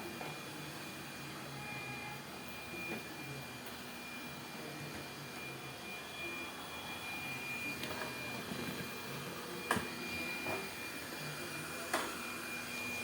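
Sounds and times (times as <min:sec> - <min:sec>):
robot vacuum cleaner whining: 0:00.0 - 0:13.0.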